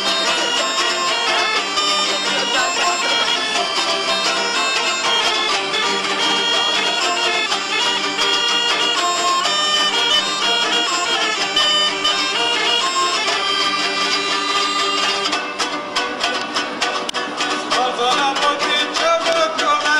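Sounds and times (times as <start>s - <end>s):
folk music melody over drone: 0.0s - 17.4s.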